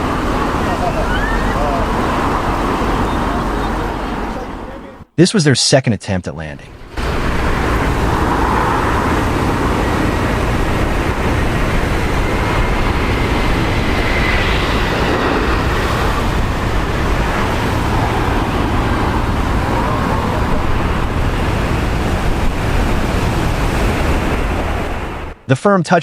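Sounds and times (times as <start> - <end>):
storm wind on microphone: 0.0 - 4.7, 6.8 - 25.4
jet engines of landing airliner: 0.0 - 4.8, 6.9 - 25.4.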